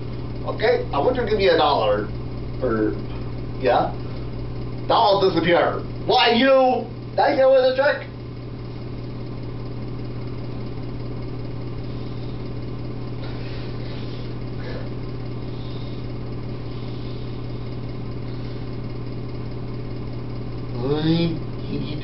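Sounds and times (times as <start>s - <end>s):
low hum with overtones: 0.0s - 22.0s.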